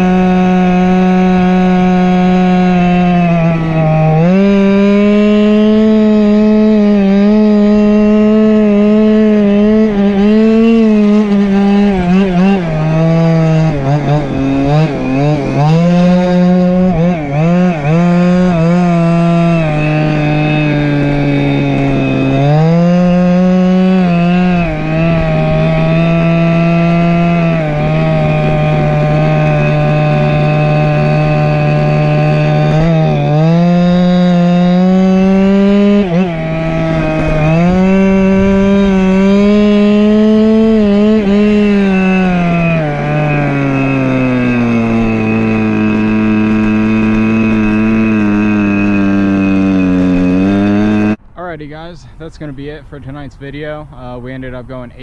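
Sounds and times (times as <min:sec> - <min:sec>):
scooter two-stroke engine revving: 0:00.0 - 0:51.3.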